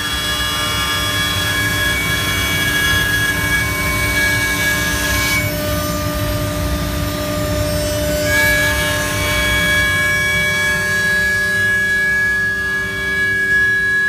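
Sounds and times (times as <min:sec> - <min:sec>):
router spindle cutting wood: 0:00.0 - 0:14.0.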